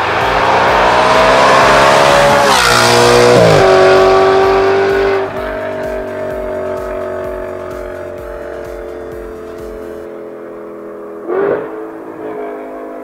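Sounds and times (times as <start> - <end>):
car engine passing by accelerating: 0.0 - 7.6, 8.8 - 13.0.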